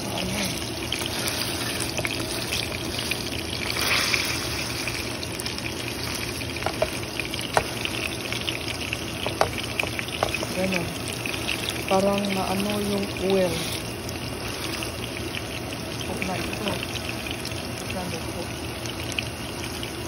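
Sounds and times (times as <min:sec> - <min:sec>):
meat sizzling in oil: 0:00.0 - 0:20.0
oil popping and crackling: 0:00.0 - 0:20.0.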